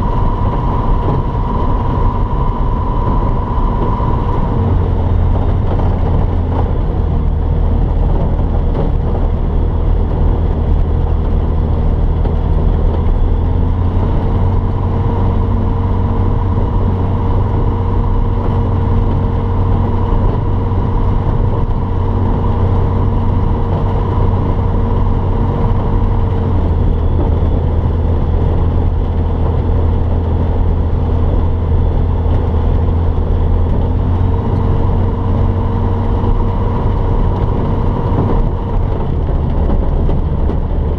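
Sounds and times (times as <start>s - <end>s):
aircraft piston engine and propeller: 0.0s - 40.9s.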